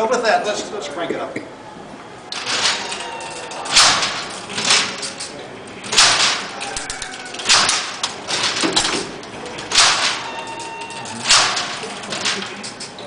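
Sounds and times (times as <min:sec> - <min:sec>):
loud mechanical clanks: 0:02.3 - 0:13.0
metallic clatter of gears: 0:02.3 - 0:13.0.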